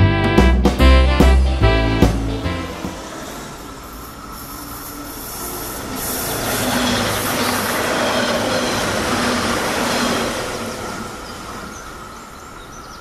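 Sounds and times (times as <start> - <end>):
train wheels rumbling on rails: 2.4 - 13.0.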